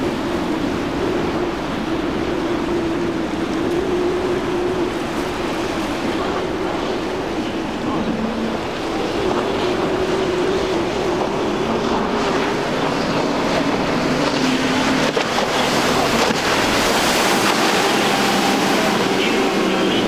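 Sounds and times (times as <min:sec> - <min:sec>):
outboard engines at speed: 0:00.0 - 0:20.0
spray and waves off hull: 0:00.0 - 0:20.0.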